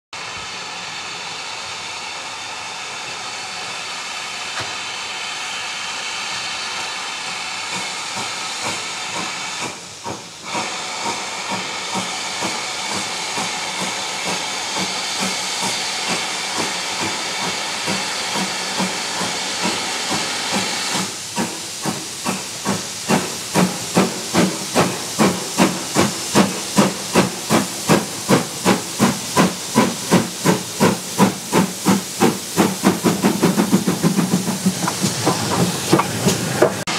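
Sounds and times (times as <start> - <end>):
steam hissing: 0.2 - 36.9
steam locomotive exhaust beats: 0.2 - 36.9.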